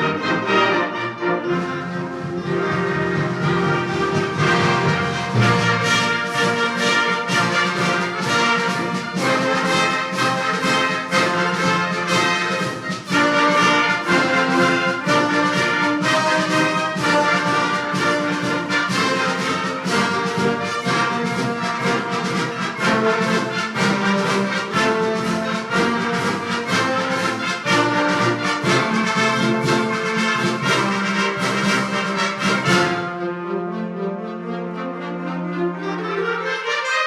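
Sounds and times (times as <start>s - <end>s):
brass trumpets and trombones: 0.0s - 37.0s
percussion strokes: 1.4s - 33.2s.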